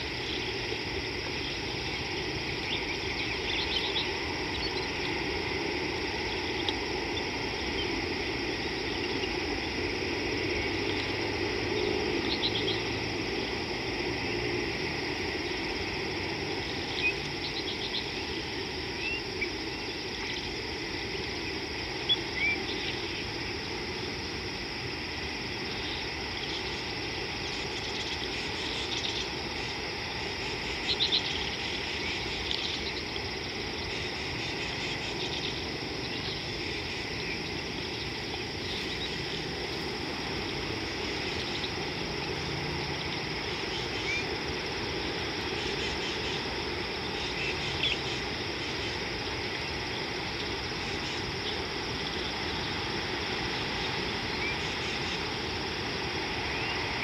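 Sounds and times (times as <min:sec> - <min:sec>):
steady hiss and low hum: 0:00.0 - 0:57.0.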